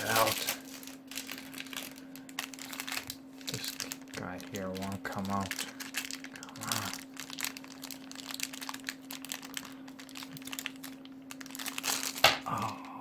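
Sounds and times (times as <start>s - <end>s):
packaging crinkling: 0.0s - 12.8s.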